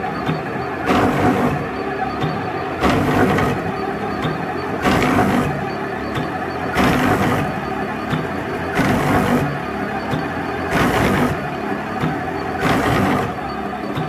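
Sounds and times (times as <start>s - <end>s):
printer stepper motors whirring: 0.0s - 14.0s.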